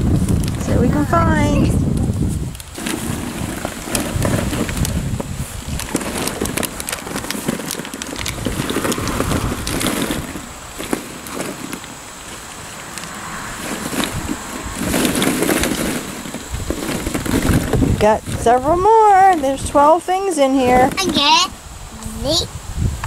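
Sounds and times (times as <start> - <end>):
wind rumbling on microphone: 0.0 - 23.0
plastic balls clattering: 2.5 - 21.3.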